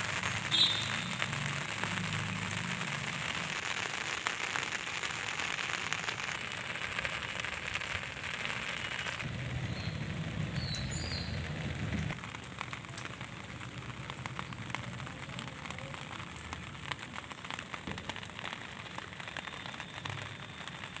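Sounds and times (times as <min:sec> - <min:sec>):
rain falling on plants: 0:00.0 - 0:21.0.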